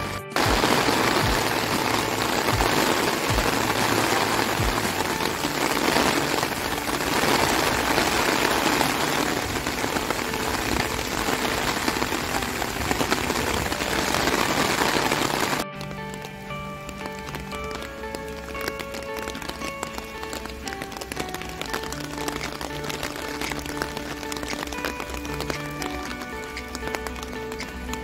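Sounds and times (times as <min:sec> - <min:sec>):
heavy rain on water and trees: 0:00.0 - 0:28.0.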